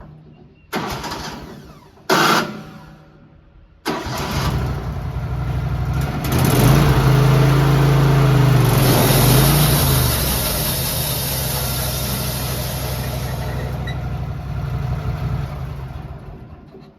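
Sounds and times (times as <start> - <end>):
sawmill engine starting and running: 0.7 - 3.2, 3.9 - 16.9.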